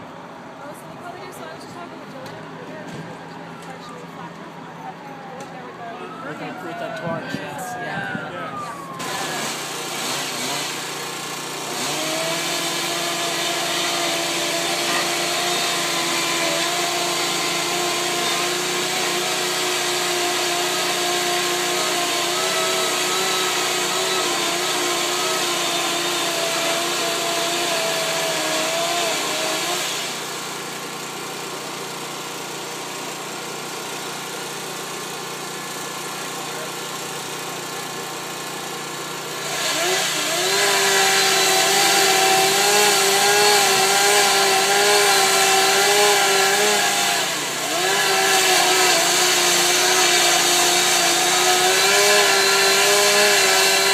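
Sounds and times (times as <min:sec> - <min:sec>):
engine running at high speed: 0:00.0 - 0:53.9
rumble of engines: 0:00.0 - 0:53.9.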